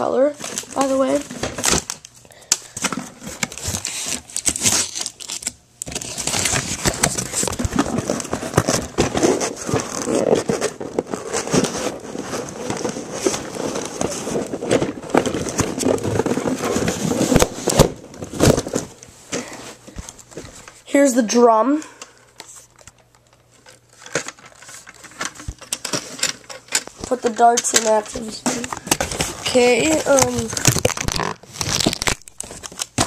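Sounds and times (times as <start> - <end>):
packaging crinkling: 0.3 - 20.8, 22.0 - 33.0.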